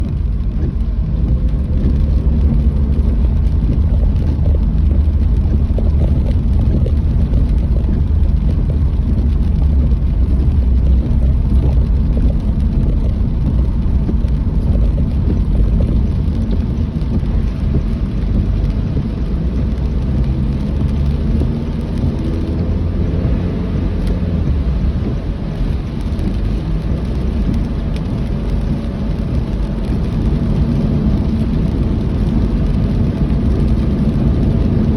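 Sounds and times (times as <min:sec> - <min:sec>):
vehicle low rumble: 0:00.0 - 0:34.9.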